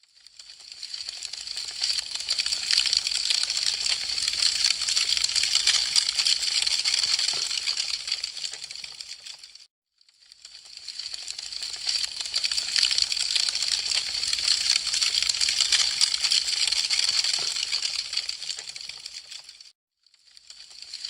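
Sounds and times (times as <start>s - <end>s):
wood fire crackling: 0.2s - 9.6s, 10.5s - 19.7s.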